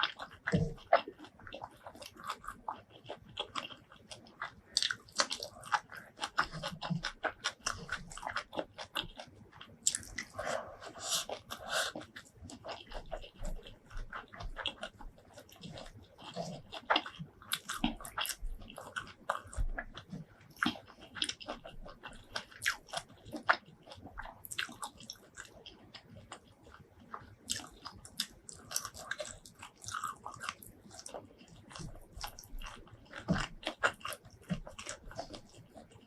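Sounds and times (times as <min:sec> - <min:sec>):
chewing with crisp crunches: 0:00.0 - 0:36.0.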